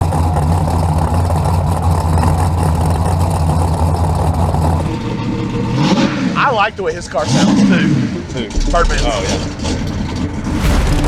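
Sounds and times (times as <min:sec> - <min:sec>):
car engine idling loudly: 0:00.0 - 0:11.0.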